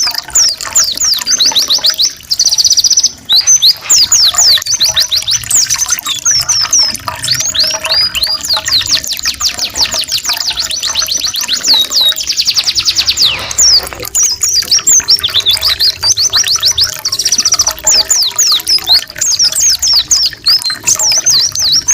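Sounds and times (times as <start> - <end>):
faint trickling water: 0.0 - 21.9
songbirds whistling and trilling: 0.0 - 21.9.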